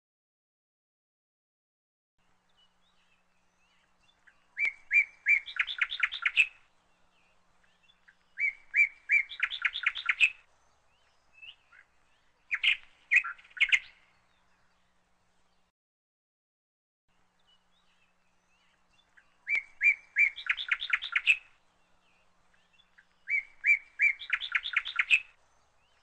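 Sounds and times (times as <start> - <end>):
bird chirping song: 2.2 - 15.7, 17.1 - 26.0.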